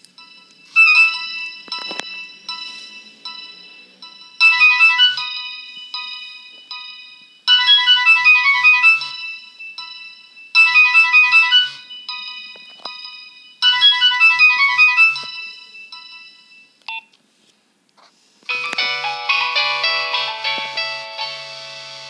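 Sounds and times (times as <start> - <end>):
different phone ringtone: 0.1 - 17.1, 18.5 - 22.0
polyphonic phone ringtone: 0.1 - 17.1, 18.5 - 22.0.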